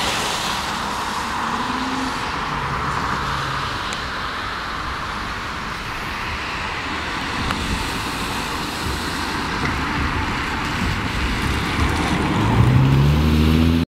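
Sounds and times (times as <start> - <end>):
tyres hissing on wet road: 0.0 - 13.8
car engine: 0.0 - 13.9.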